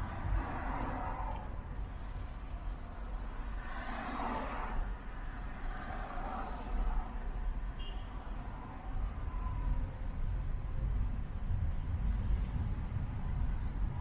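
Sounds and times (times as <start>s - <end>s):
car engine and tyres rumbling: 0.0s - 14.0s
traffic noise: 0.0s - 14.0s.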